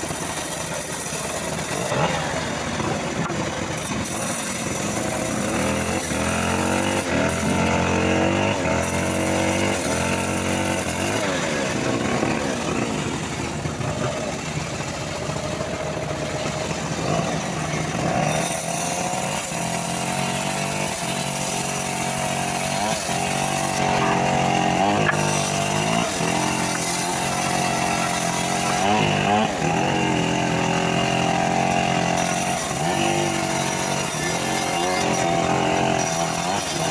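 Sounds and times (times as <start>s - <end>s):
bandsaw sawmill cutting log: 0.0s - 36.9s.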